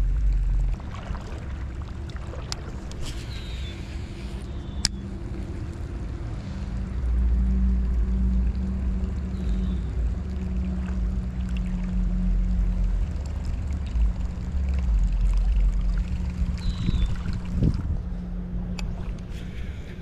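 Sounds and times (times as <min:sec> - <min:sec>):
creek water running: 0:00.0 - 0:20.0
steady low hum: 0:00.0 - 0:20.0
wind buffeting microphone: 0:00.0 - 0:20.0.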